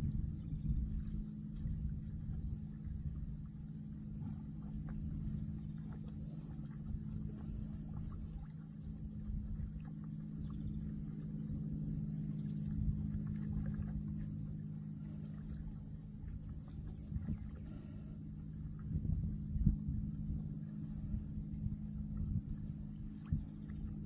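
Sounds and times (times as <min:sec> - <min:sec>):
low hum and rumble: 0:00.0 - 0:24.0.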